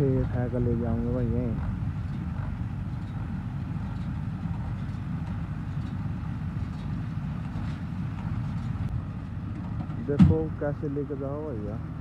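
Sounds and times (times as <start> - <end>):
baler machinery running: 0.0 - 12.0
tractor diesel engine running: 0.0 - 12.0.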